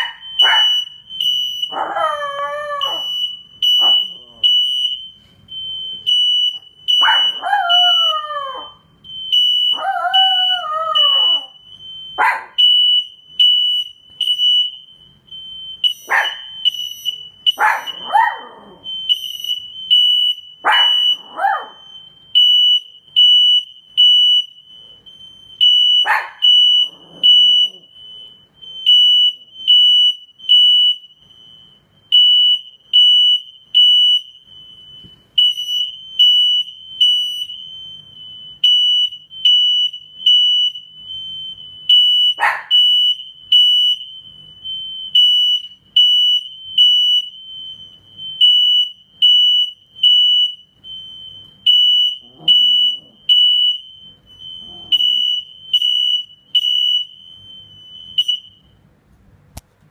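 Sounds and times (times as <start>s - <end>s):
fire alarm beeping: 0.0s - 58.8s.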